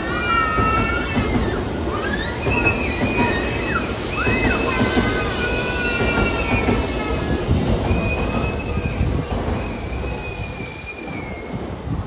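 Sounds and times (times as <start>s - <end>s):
high thin wheel squeals: 0.0s - 11.9s
train wheels rumbling on rail: 0.0s - 12.0s.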